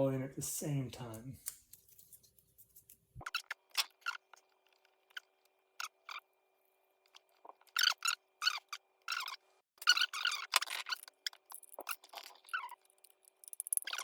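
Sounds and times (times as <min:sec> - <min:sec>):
wires clicking and scraping: 0:01.0 - 0:06.2, 0:07.0 - 0:14.0.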